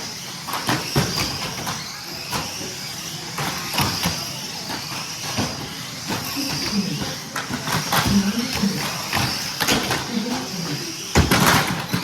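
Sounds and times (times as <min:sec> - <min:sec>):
high-pitched motor whine: 0:00.0 - 0:12.0
toy car knocking and clattering: 0:00.2 - 0:12.0.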